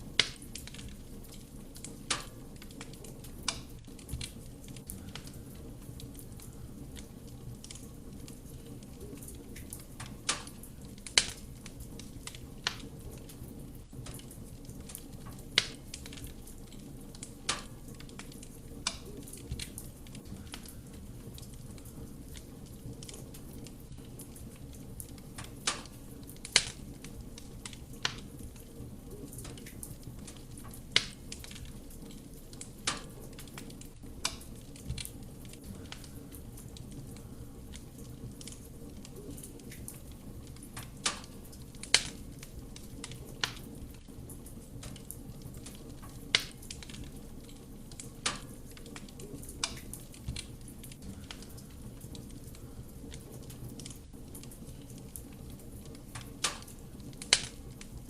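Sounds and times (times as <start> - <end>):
burning logs crackling: 0.0 - 58.0
fire flame rumble: 0.0 - 58.0.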